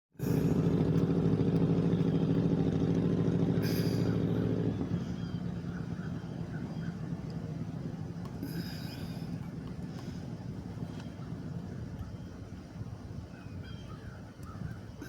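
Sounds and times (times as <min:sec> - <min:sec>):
engine droning: 0:00.1 - 0:15.0.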